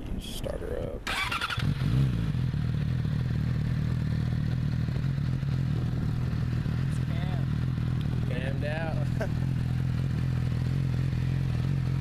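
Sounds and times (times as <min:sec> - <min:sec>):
motorcycle engine starting and idling: 0:01.0 - 0:12.0.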